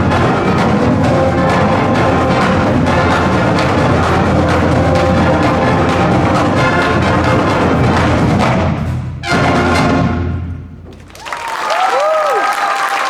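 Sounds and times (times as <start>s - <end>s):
marching band brass and drums: 0.0s - 11.2s.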